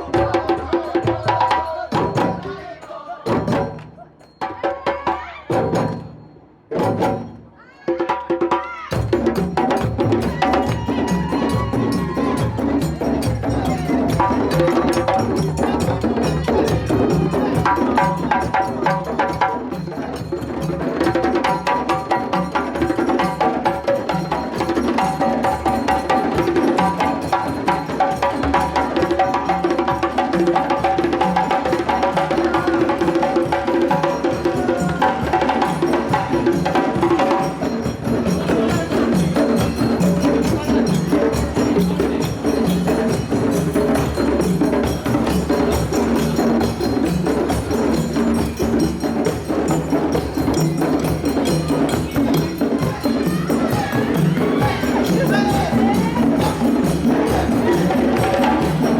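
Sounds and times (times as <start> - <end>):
percussion ensemble drumming: 0.0 - 58.9.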